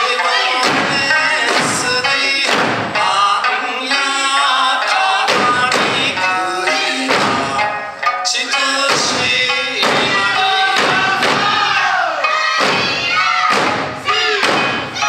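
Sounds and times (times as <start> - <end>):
person singing folk melody: 0.0 - 12.4
barrel drums and hand drums: 0.0 - 15.0.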